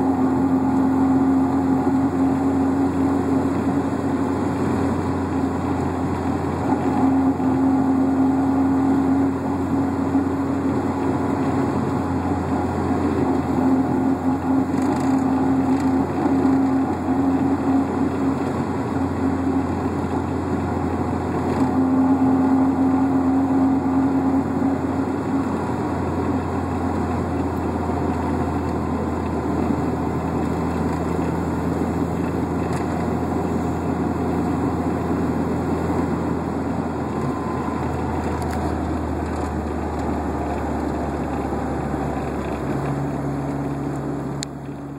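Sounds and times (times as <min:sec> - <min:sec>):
car running noise: 0:00.0 - 0:44.9
low drone: 0:00.0 - 0:44.9.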